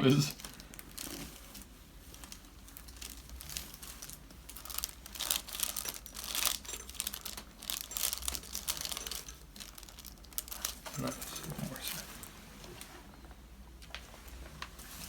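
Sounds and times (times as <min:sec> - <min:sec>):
crinkling on treatment table: 0:00.3 - 0:13.2.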